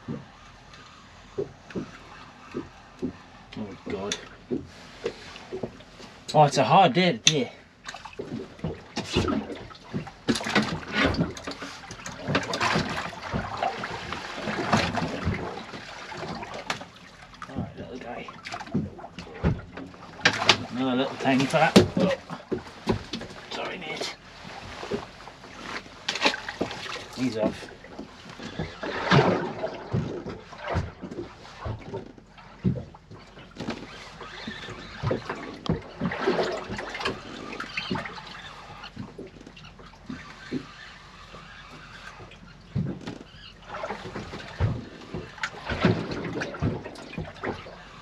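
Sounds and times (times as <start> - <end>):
water splashing beside boat: 0.0 - 48.0.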